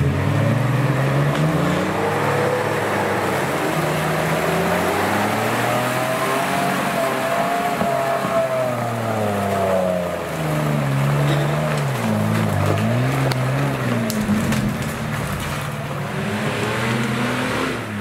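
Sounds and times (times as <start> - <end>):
off-road vehicle engine running: 0.0 - 18.0.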